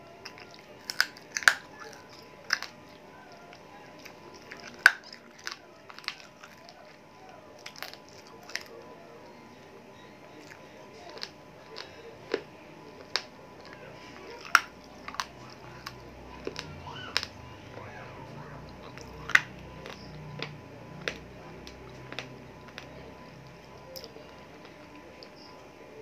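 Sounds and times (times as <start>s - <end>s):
chewing with wet mouth smacks: 0.2s - 8.8s, 10.3s - 25.4s.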